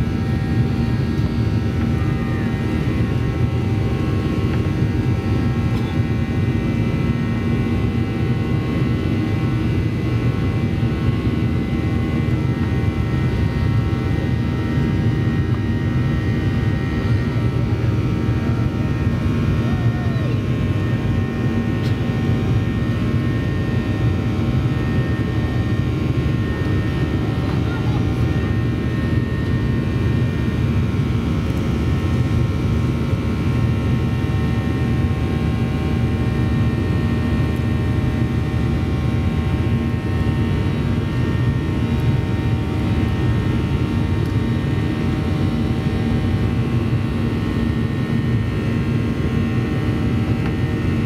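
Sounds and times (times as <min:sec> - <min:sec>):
airplane cabin engine rush: 0:00.0 - 0:51.0.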